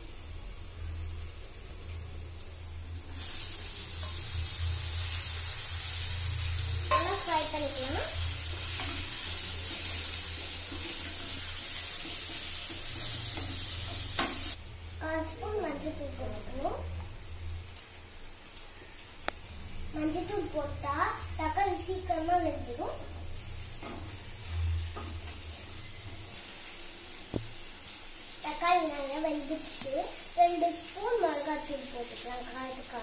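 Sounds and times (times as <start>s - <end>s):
vegetables sizzling in a pot: 0.0s - 33.0s.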